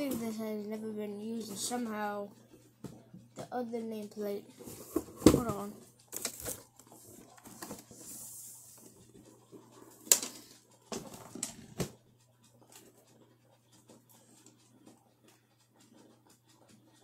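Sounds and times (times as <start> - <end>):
faint scratching and ticking: 0.0 - 17.0.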